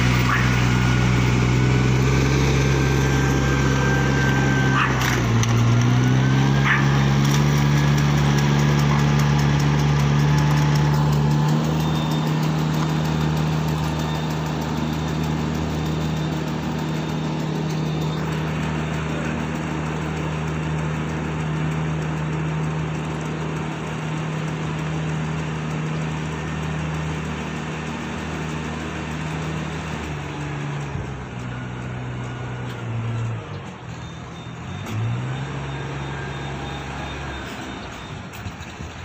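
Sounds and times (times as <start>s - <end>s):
small engine running: 0.0s - 39.0s.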